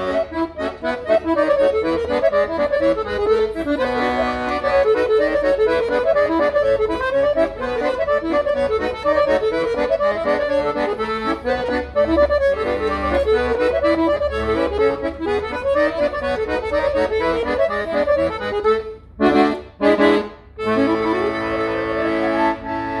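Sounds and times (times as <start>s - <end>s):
piano accordion playing: 0.0s - 23.0s.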